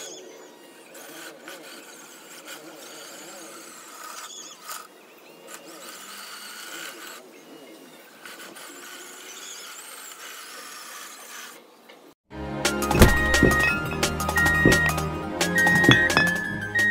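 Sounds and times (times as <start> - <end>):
toy bulldozer squealing and grinding: 0.0 - 11.7, 12.9 - 16.9.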